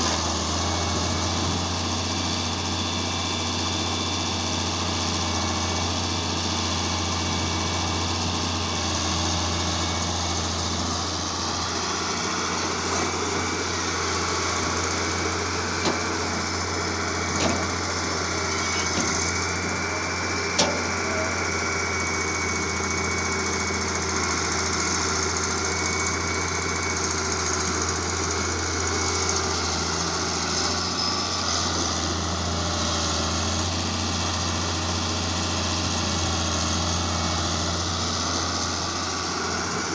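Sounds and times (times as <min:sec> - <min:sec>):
heavy machinery engine humming: 0:00.0 - 0:39.9.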